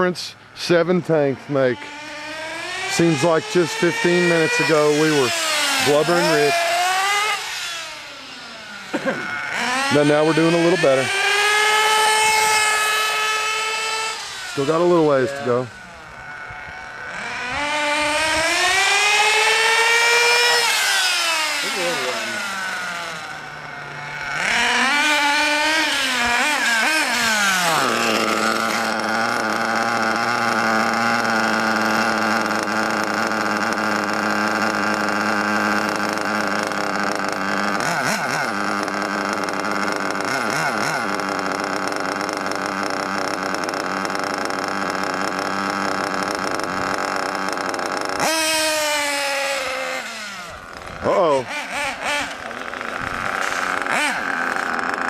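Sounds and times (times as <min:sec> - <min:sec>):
nitro model engine running: 0:00.5 - 0:55.0.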